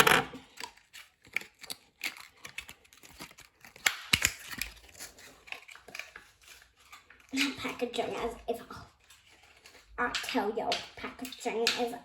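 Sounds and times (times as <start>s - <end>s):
plastic packaging clicks and crinkles: 0.0s - 12.0s.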